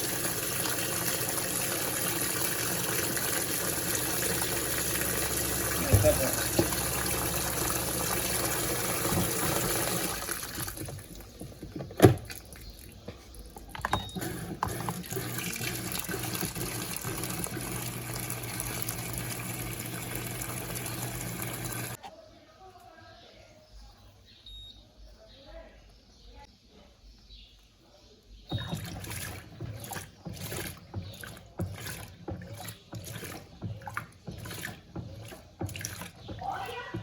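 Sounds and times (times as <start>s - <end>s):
water pouring into washing machine: 0.0s - 22.0s, 28.5s - 37.0s.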